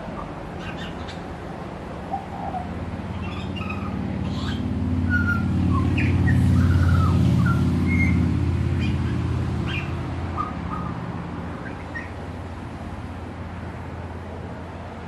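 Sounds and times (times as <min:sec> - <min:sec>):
birds chirping: 0:00.0 - 0:13.2
passing vehicle engine drone: 0:00.0 - 0:15.0.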